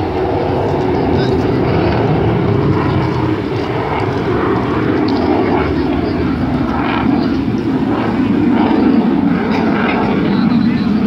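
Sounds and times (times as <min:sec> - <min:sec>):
fighter jet engine rumble: 0:00.0 - 0:11.0.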